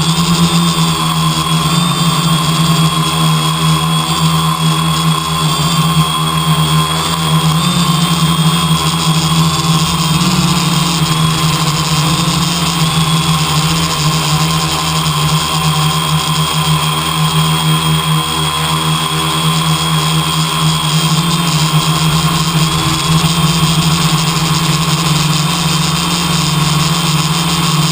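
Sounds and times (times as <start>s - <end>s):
machine hum with whining tones: 0.0s - 27.9s.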